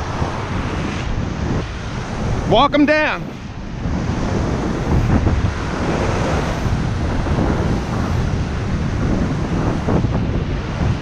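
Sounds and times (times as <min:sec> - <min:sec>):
ocean surf washing up beach: 0:00.0 - 0:11.0
wind buffeting microphone: 0:00.0 - 0:11.0.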